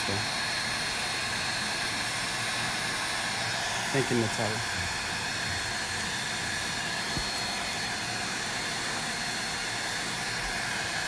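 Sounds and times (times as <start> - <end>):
faint high whine: 0.0 - 11.0
heat gun fan hiss: 0.0 - 11.0.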